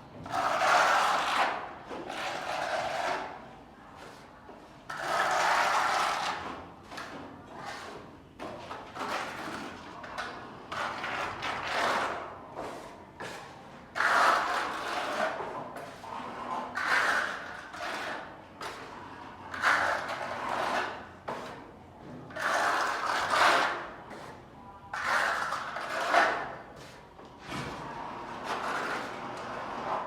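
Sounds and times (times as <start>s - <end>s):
hand tool scraping a wall: 0.2s - 3.4s, 4.9s - 21.7s, 22.3s - 30.0s.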